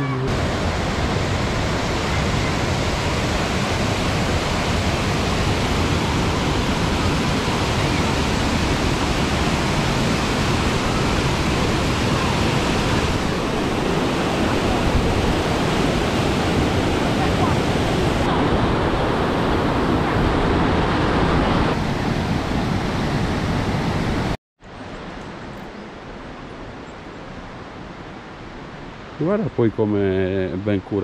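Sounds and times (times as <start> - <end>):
rushing falling water: 0.0 - 31.0.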